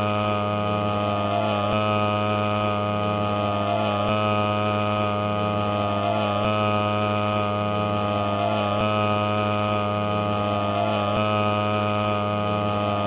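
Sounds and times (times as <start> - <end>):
steady layered drone: 0.0 - 13.0.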